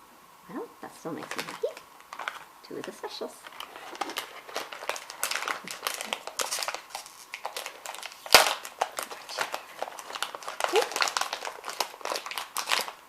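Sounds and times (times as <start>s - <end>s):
packaging crinkling and tearing: 1.2s - 13.0s.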